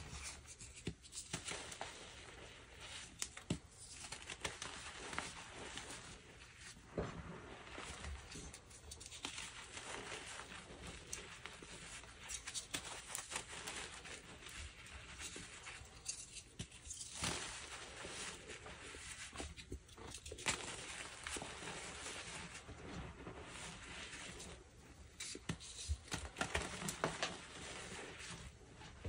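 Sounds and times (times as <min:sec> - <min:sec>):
chalk crackling and crunching: 0:00.0 - 0:28.5.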